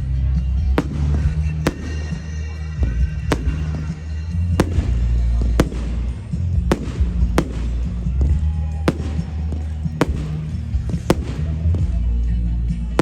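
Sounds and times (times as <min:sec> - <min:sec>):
firework bangs: 0:00.3 - 0:13.0.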